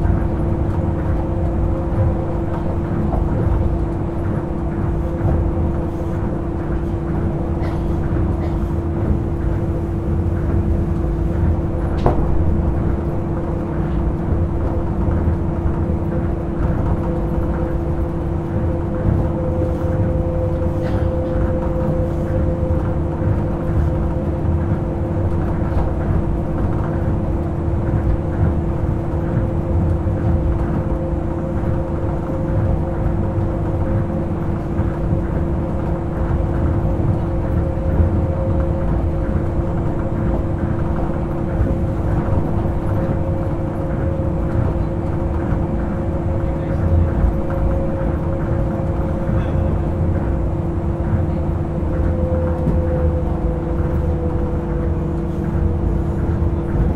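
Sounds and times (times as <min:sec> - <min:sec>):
monorail tyres rumbling: 0:00.0 - 0:56.9
steady humming tones: 0:00.0 - 0:56.9.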